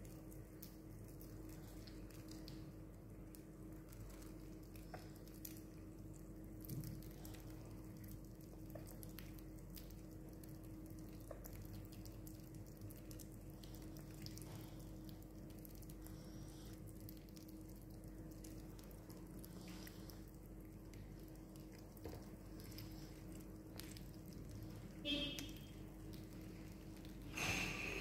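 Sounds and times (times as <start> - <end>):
small animal licking and chewing: 0.0 - 28.0.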